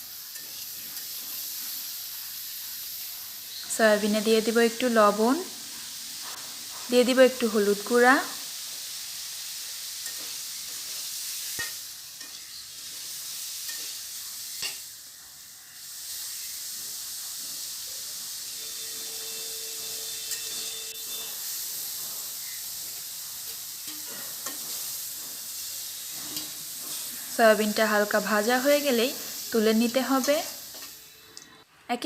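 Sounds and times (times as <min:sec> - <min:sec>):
food sizzling in hot oil: 0:00.0 - 0:31.6.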